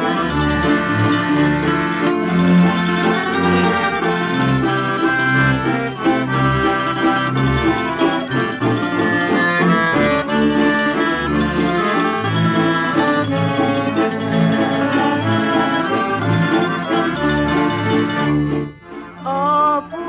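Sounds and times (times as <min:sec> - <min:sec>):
accordion melody: 0:00.0 - 0:20.0
folk band with pulsing bass: 0:00.0 - 0:20.0.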